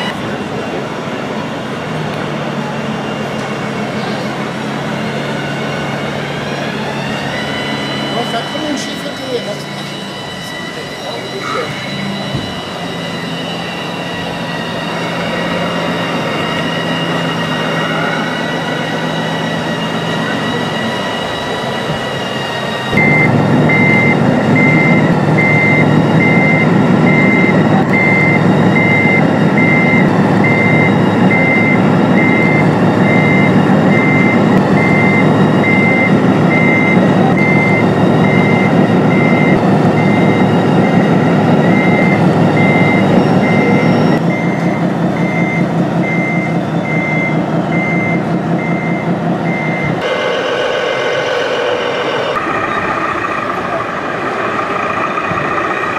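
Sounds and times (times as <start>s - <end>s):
diesel engine sound effect: 0.0s - 55.9s
different electronic tone: 3.9s - 55.5s
reversing alarm beeps: 4.0s - 53.6s.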